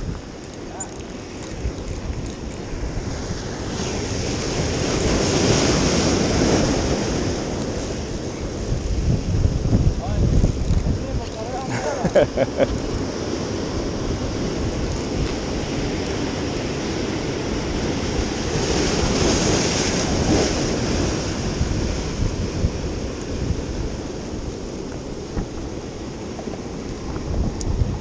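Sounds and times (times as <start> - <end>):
wind on the microphone: 0.0 - 28.0
surf breaking over rocks: 2.6 - 28.0.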